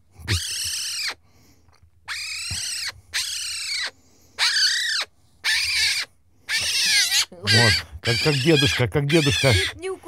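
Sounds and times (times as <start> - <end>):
magpie screeching: 0.2 - 1.2, 2.1 - 9.9.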